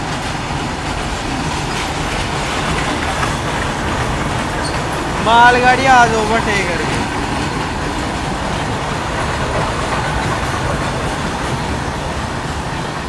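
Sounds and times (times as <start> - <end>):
freight train running alongside: 0.0 - 13.0
train wheels rumbling on rails: 0.0 - 13.0
wind: 0.0 - 13.0.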